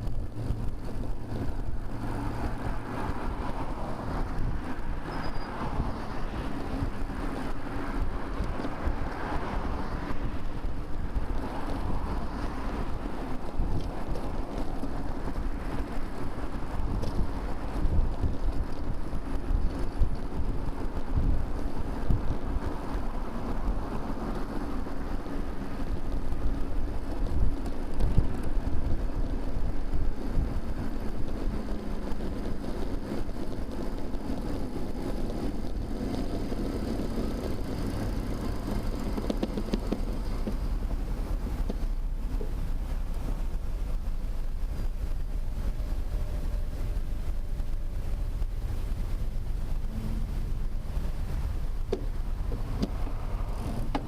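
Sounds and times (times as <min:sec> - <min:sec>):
rumble of motor traffic: 0:00.0 - 0:54.0
vehicle engine hum: 0:00.0 - 0:54.0
wind rushing over microphone: 0:00.0 - 0:54.0.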